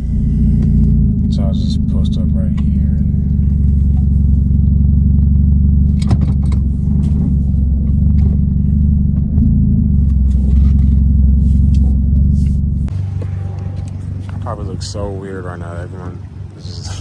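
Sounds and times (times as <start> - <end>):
car exhaust droning: 0.0 - 17.0.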